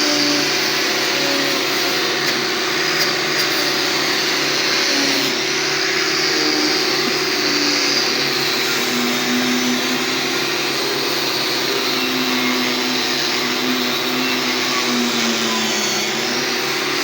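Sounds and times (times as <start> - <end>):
electric power tool whining: 0.0 - 17.0.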